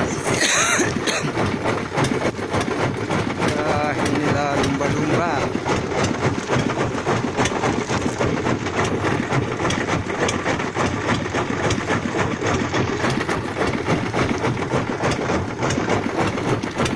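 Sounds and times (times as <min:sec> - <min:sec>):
boat engine running: 0:00.0 - 0:16.9
rush of wind and water: 0:00.0 - 0:16.9.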